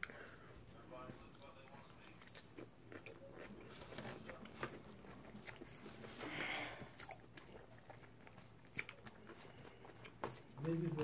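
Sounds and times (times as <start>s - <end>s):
chewing crisp lettuce: 1.2s - 11.0s.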